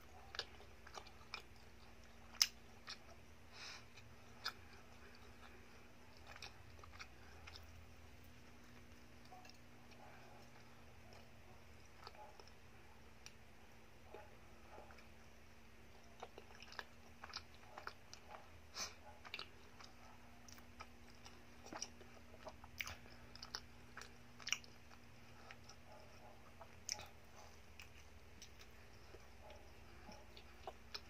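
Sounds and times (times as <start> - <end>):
person chewing: 0.0 - 13.5, 15.9 - 31.0
low steady hum: 0.0 - 31.0.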